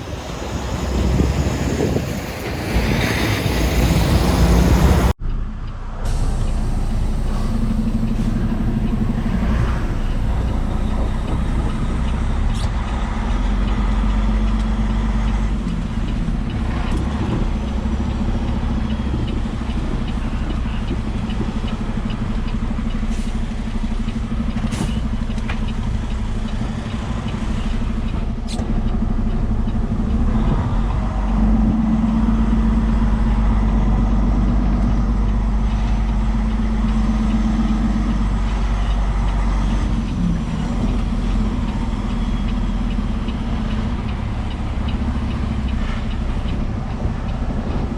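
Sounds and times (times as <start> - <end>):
diesel truck engine drone: 0.0 - 47.9.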